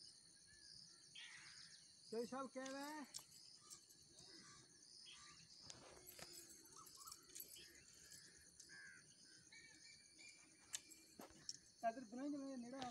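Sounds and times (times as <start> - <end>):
high insect hum: 0.0 - 12.9
faint bird calls: 0.9 - 11.9.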